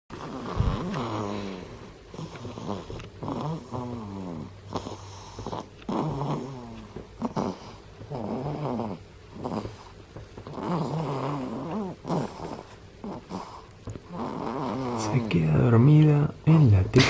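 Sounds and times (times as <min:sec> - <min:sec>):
baby snoring: 0:00.1 - 0:16.8.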